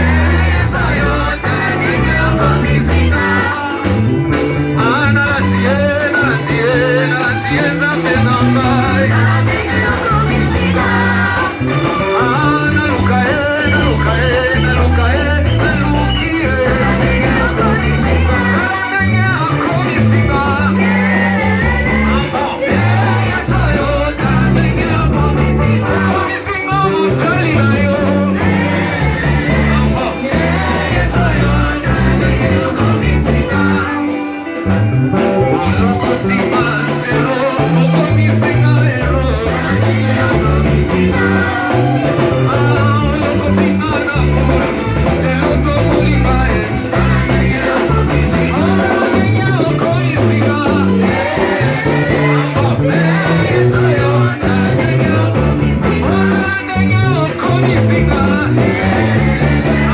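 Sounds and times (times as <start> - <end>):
moving bass line: 0.0 - 59.9
person singing: 0.0 - 59.9
worship band music: 0.0 - 59.9.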